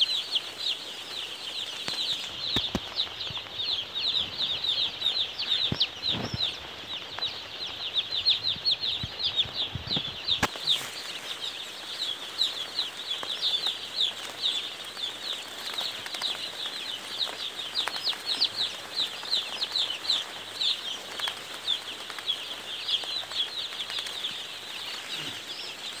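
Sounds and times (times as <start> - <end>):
baby chicks peeping: 0.0 - 26.0.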